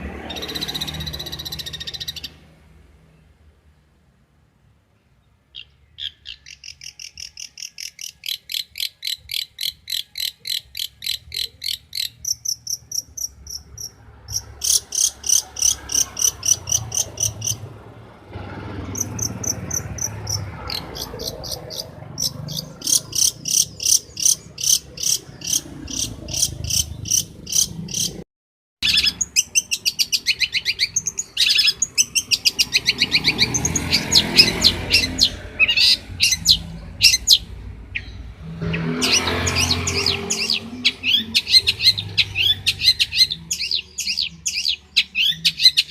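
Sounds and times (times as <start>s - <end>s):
bird singing high chirps: 0.2s - 2.4s, 5.0s - 17.7s, 18.8s - 28.2s, 28.8s - 45.9s.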